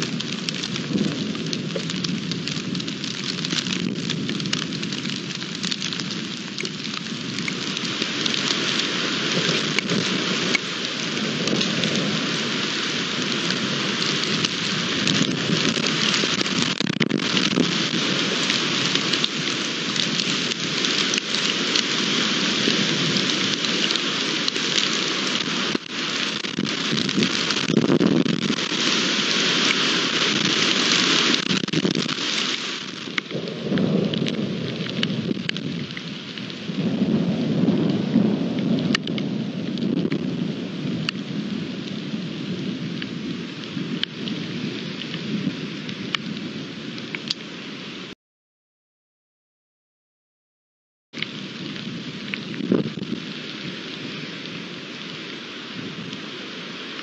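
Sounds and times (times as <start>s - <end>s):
thunder rumbling: 0.0s - 47.2s
heavy rain: 0.0s - 48.2s, 51.2s - 57.0s.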